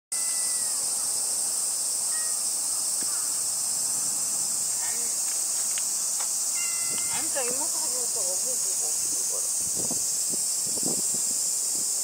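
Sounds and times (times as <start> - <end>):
high-pitched insect chorus: 0.2 - 12.0.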